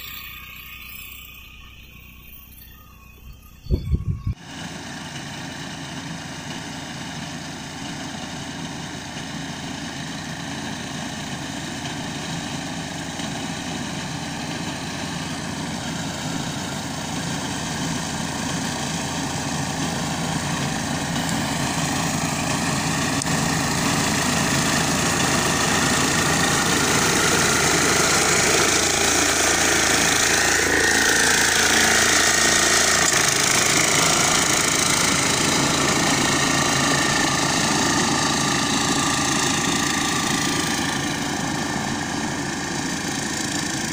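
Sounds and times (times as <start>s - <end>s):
diesel reaper engine running: 0.0s - 43.9s.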